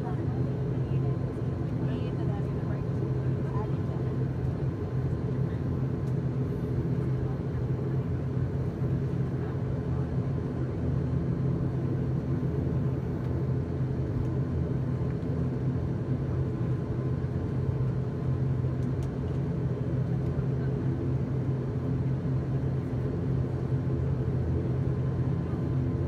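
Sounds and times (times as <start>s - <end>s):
low propeller drone: 0.0s - 26.0s.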